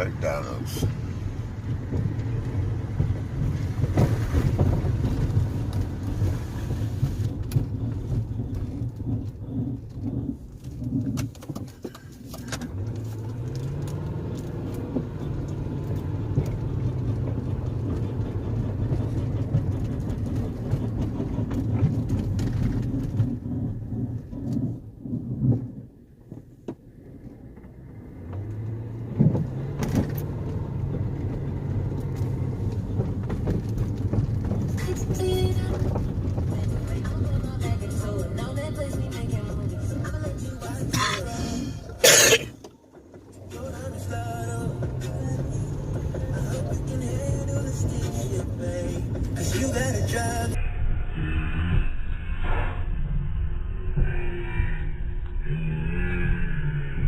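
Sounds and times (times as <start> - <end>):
car engine: 0.0 - 57.0
road noise: 0.0 - 57.0.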